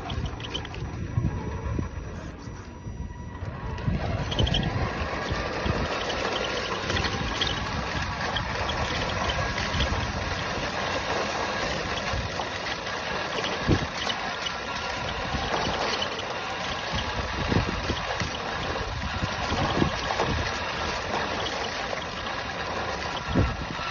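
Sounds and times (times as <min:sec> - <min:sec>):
toy truck rolling rumble: 0:00.0 - 0:23.9.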